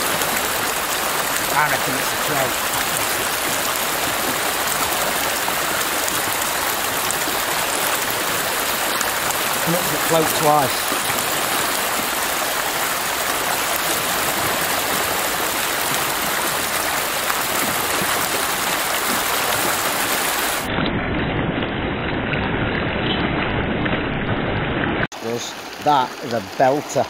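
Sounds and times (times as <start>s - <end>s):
river water flowing: 0.0s - 20.8s, 25.1s - 27.0s.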